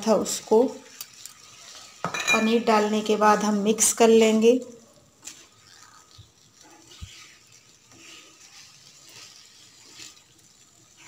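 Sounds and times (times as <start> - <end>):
spatula scraping in pan: 0.0 - 11.0.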